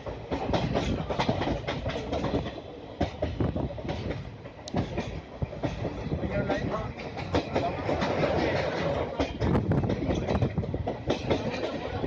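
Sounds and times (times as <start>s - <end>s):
train rumble: 0.0s - 12.0s
train wheels clattering: 0.0s - 12.0s.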